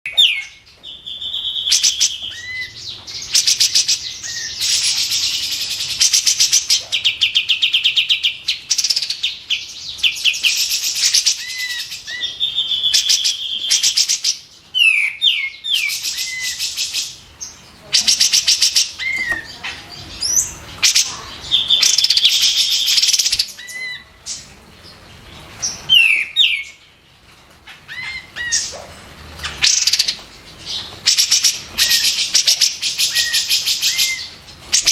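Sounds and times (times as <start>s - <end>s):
bulbul singing: 0.1s - 24.6s, 27.8s - 34.9s.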